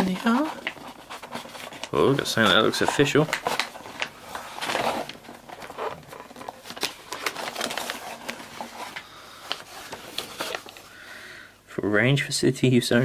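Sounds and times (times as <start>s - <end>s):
paper rustling: 0.0s - 10.9s.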